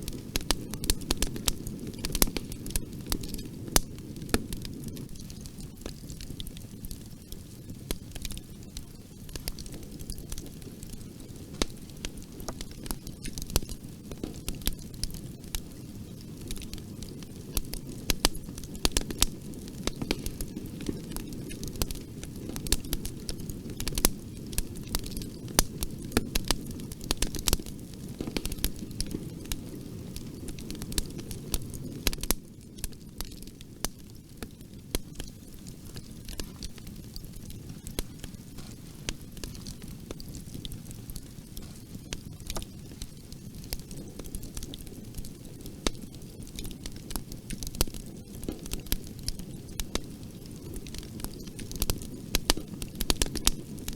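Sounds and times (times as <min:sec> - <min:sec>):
burning wood crackling and popping: 0:00.0 - 0:53.9
low rumble of flames: 0:00.0 - 0:53.9.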